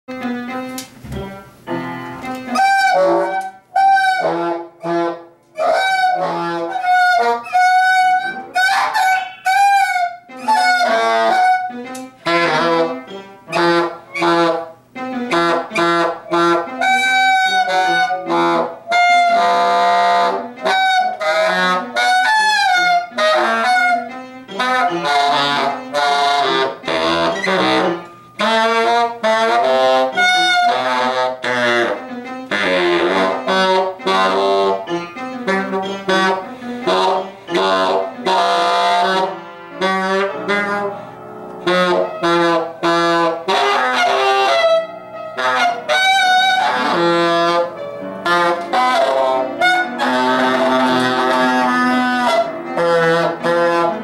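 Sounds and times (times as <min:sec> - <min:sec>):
saxophone bending notes: 0:00.1 - 0:54.0.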